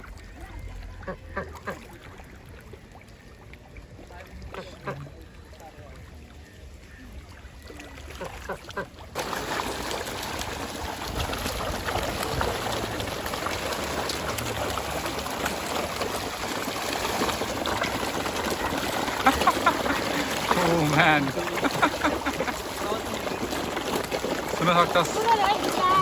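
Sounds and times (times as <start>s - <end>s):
water splashing and trickling: 0.0s - 26.0s.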